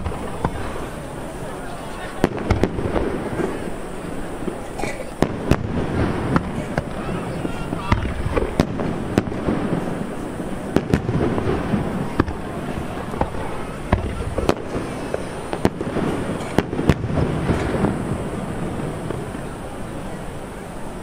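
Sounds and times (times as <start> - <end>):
firework shells bursting: 0.0 - 19.9
continuous rumble: 0.0 - 21.0.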